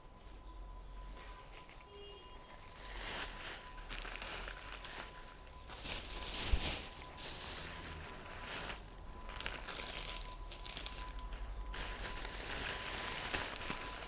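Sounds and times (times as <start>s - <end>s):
plastic bag rustling: 0.9s - 14.0s.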